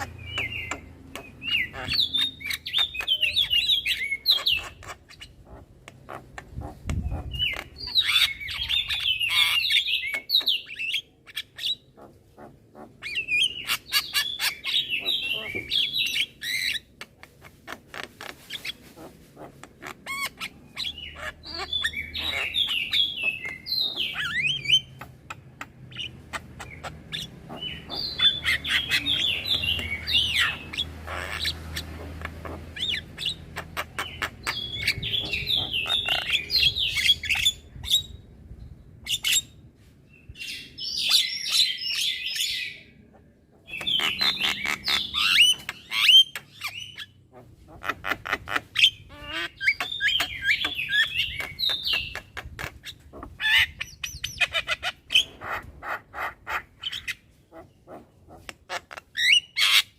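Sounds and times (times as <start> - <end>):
bird chattering with squeaky whistles: 0.0 - 18.8, 19.7 - 38.2, 43.7 - 57.7.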